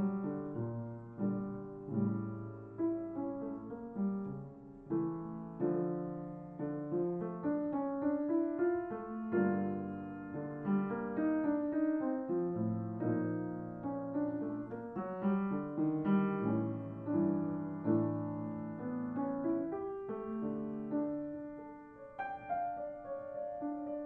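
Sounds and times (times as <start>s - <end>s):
piano melody over chords: 0.0s - 24.0s.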